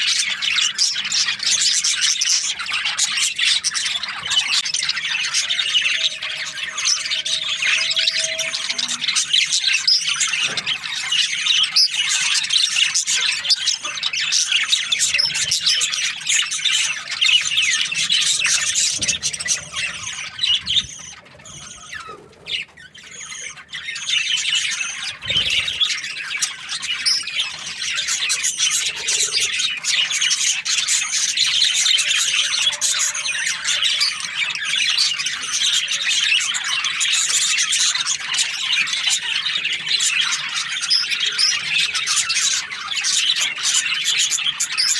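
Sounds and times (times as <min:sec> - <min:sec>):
budgerigars chirping and squawking: 0:00.0 - 0:44.9.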